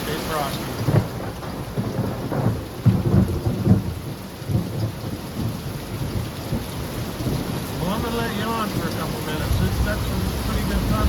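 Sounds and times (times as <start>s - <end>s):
heavy rain falling: 0.0s - 11.0s
thunder rumbling: 0.0s - 11.0s.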